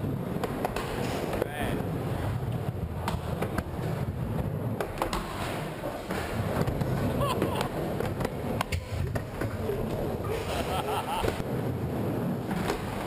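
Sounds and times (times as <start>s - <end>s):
skateboard wheels rolling on wood: 0.0s - 13.0s.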